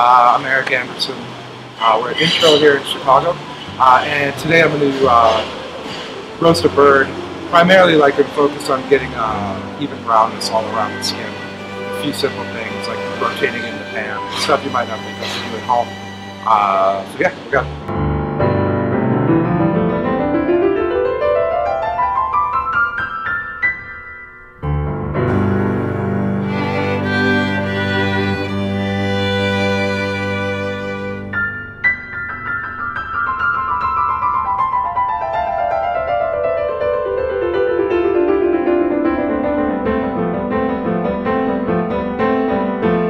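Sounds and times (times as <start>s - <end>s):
piano notes climbing: 0.0s - 43.0s.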